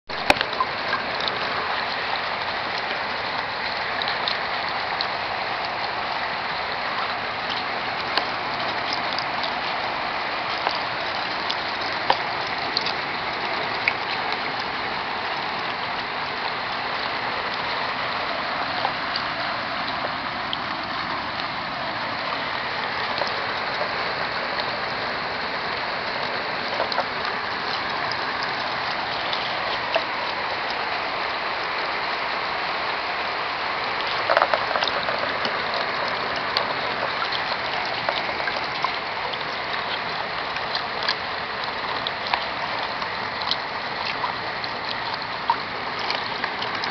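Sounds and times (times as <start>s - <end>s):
steady rainfall: 0.0s - 46.9s
raindrops ticking on surfaces: 0.1s - 46.9s.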